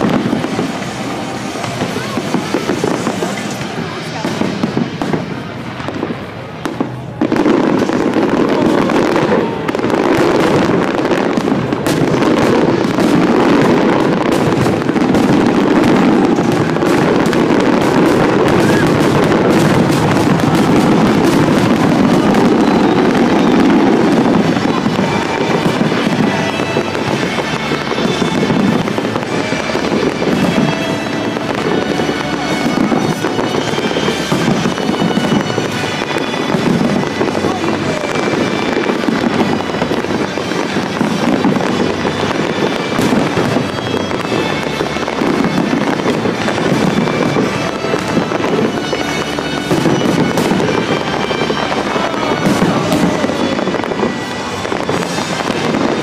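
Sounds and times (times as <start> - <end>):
fireworks bangs and crackles: 0.0 - 56.0
music playing: 0.0 - 56.0.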